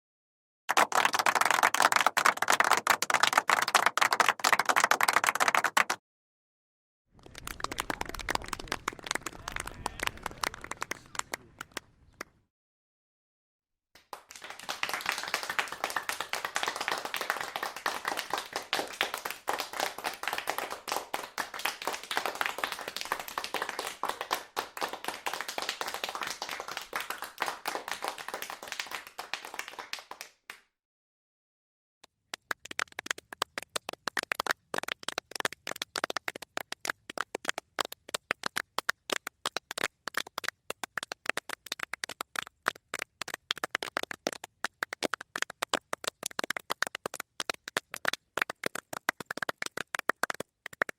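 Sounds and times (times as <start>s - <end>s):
crowd applauding: 0.7s - 6.0s, 7.2s - 12.4s, 14.0s - 30.6s, 32.4s - 50.9s
small group clapping: 0.7s - 6.0s, 7.2s - 12.4s, 14.0s - 30.8s, 32.0s - 50.9s.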